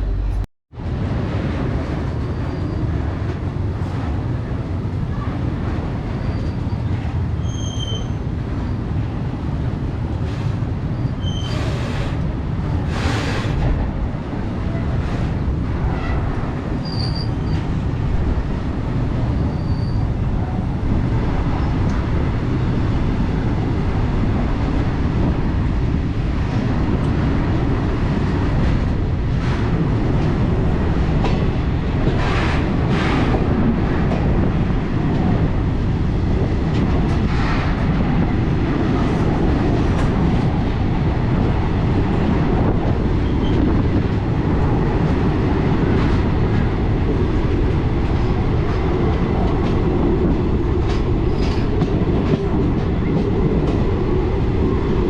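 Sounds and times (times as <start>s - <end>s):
rushing noise: 0.0s - 55.0s
train wheels rumbling on track: 0.0s - 55.0s.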